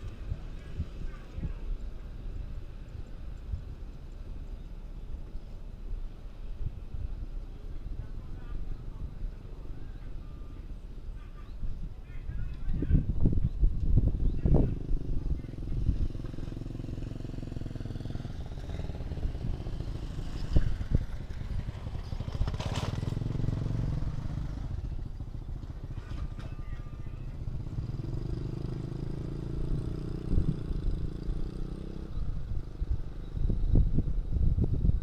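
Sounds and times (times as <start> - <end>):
motorcycle engines passing: 0.0 - 35.0
road traffic: 0.0 - 35.0.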